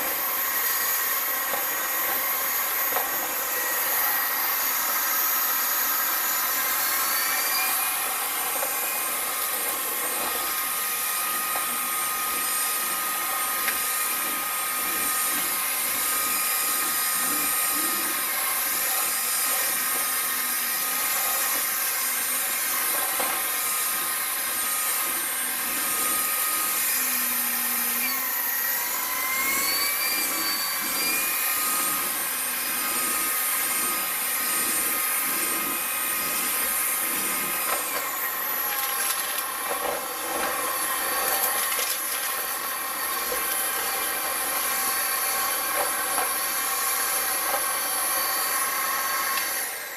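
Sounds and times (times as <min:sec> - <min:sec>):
stick vacuum motor whine: 0:00.0 - 0:49.9.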